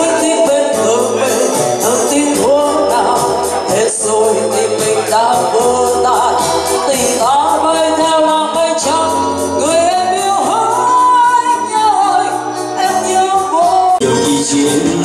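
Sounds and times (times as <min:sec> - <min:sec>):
live rock band playing: 0:00.0 - 0:15.0
woman singing: 0:00.0 - 0:15.0.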